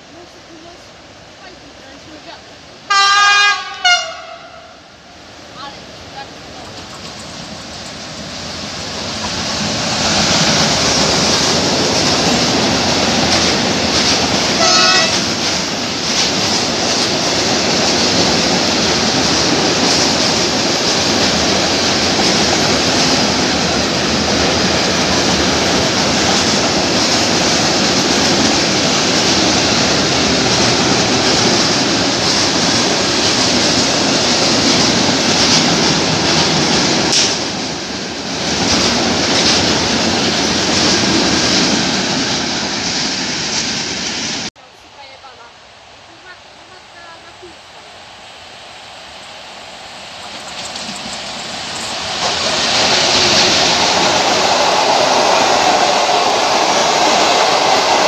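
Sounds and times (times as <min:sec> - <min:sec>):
train wheels rumbling on rail: 0:03.5 - 0:45.5, 0:48.2 - 0:58.0.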